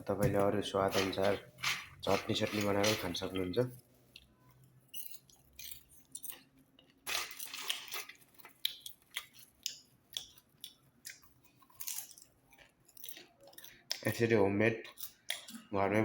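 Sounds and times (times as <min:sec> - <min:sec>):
person chewing popcorn: 0:01.0 - 0:14.2, 0:14.8 - 0:15.7.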